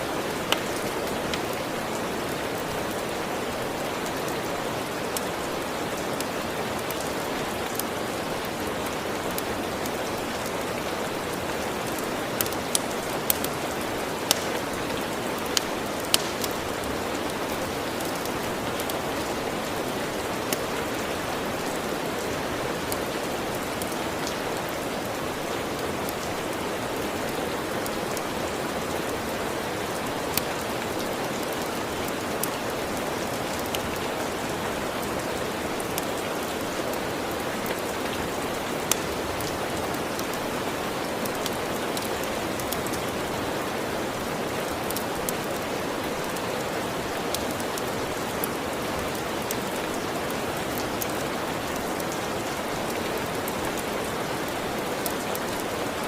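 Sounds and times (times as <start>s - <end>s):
sharp rain ticks: 0.0s - 56.0s
steady rain hiss: 0.0s - 56.0s.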